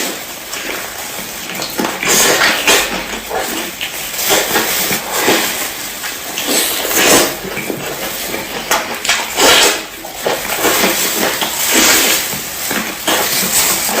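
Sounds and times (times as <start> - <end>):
crispy food crunching: 0.0 - 14.0.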